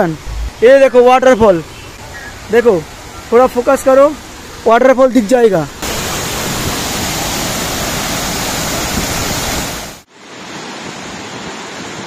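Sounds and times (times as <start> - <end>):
waterfall over rocks: 0.0 - 12.0.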